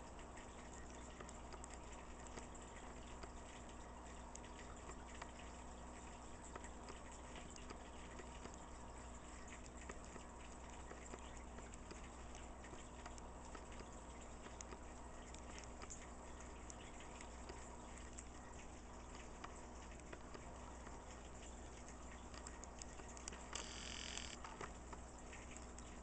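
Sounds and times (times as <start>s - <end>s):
aquarium water bubbling: 0.0s - 26.0s
low steady hum: 0.0s - 26.0s.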